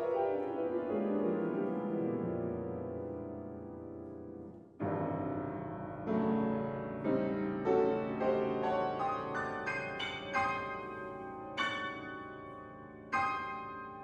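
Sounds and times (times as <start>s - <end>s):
grand piano chords: 0.0s - 14.0s.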